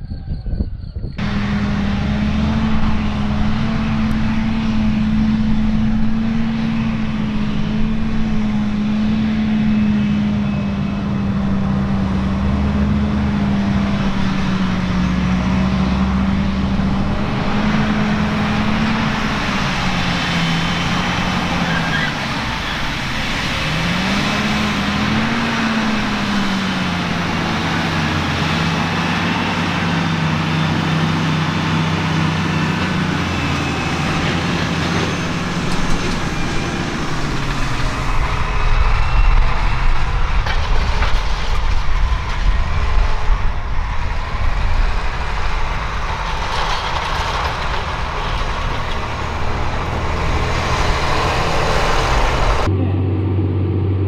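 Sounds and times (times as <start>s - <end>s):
deep machine rumble: 0.0s - 54.0s
tractor engine under load: 1.2s - 54.0s.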